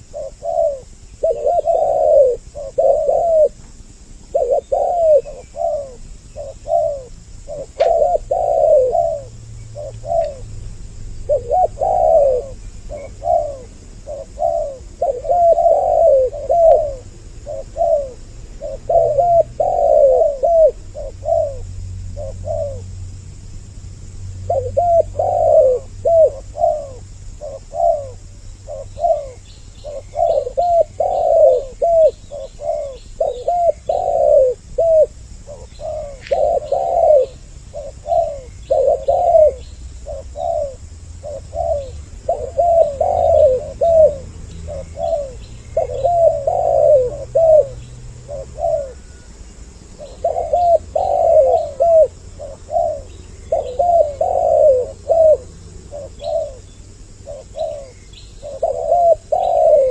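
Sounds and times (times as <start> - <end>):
doves cooing: 0.0 - 23.0, 24.4 - 59.9
small bird chirping: 0.0 - 23.4, 24.4 - 59.9.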